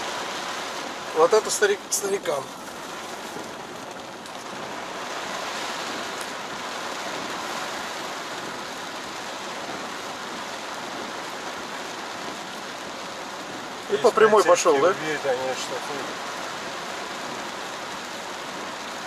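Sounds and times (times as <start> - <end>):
rain on car roof: 0.0 - 19.0.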